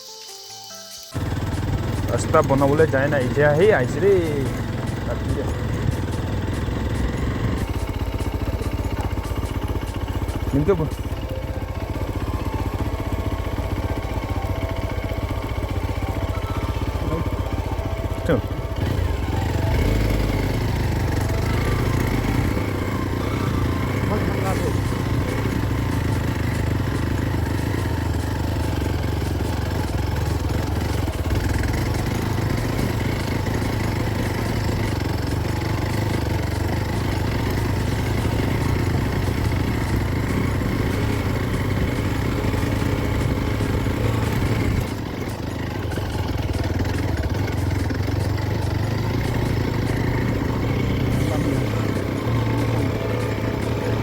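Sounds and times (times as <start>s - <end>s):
engine running steadily: 1.2s - 54.0s.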